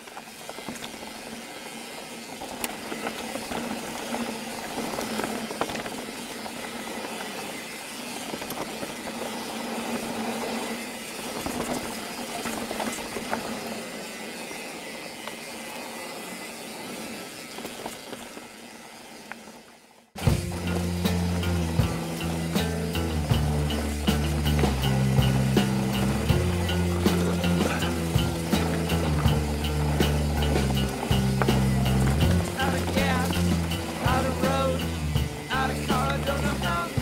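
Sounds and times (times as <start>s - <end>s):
bike knocks and rattles: 0.0s - 14.3s, 20.2s - 37.0s
tyre and wind noise: 0.0s - 19.6s, 20.2s - 37.0s.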